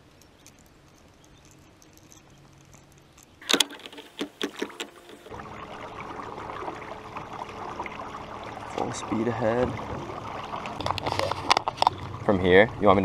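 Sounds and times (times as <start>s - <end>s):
water churning: 0.0s - 13.0s.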